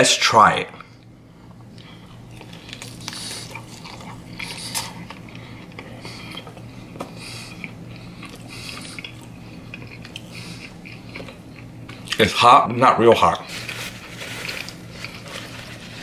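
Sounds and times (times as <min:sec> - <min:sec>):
man chewing food: 0:00.9 - 0:12.2, 0:13.5 - 0:16.0.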